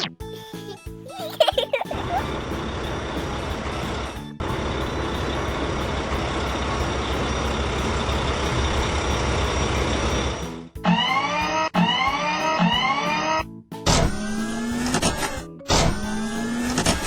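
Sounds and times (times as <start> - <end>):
cartoon truck engine rumble: 1.7 - 17.0.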